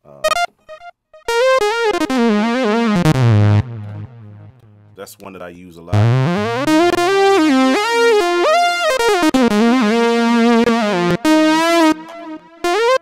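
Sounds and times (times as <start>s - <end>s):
gliding synthesizer lead melody: 0.2s - 4.7s, 6.0s - 13.0s.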